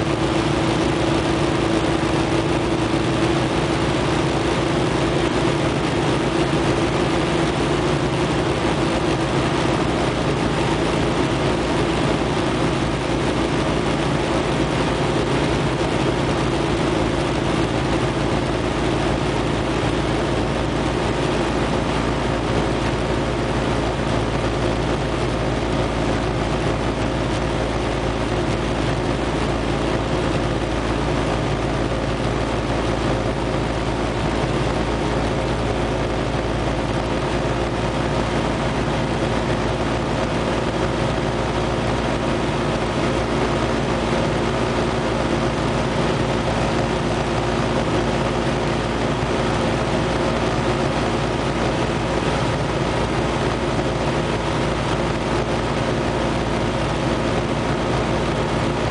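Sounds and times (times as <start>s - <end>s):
aircraft piston engine drone: 0.0s - 58.9s.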